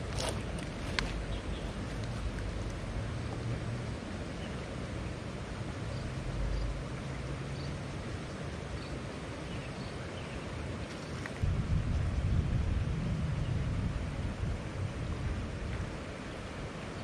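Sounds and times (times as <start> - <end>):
mountain stream rushing: 0.0 - 11.5, 13.5 - 17.0
wind rumbling on microphone: 0.0 - 17.0.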